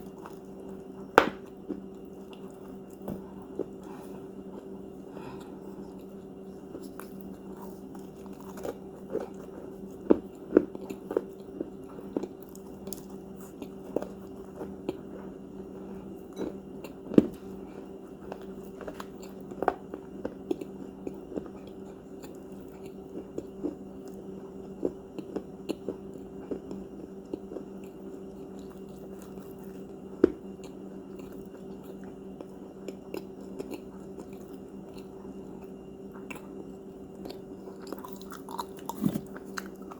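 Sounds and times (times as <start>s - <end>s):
cookies being crunched and chewed: 0.0s - 15.2s, 15.8s - 39.9s.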